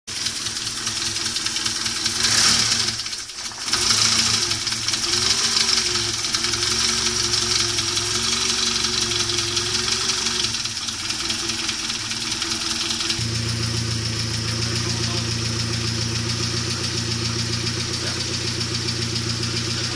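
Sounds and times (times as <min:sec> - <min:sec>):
car engine idling: 0:00.1 - 0:19.9.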